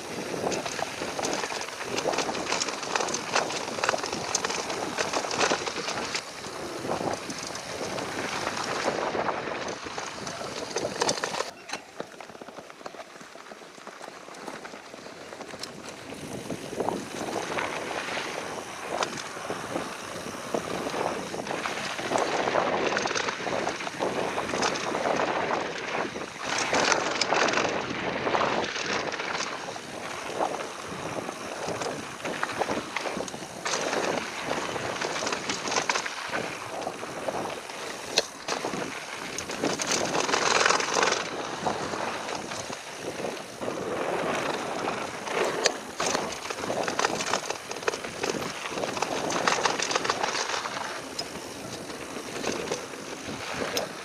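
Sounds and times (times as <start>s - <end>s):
wind on microphone: 0.0s - 11.8s, 14.9s - 54.0s
bike knocking and rattling: 0.0s - 54.0s
bike tyres on dirt: 0.0s - 54.0s.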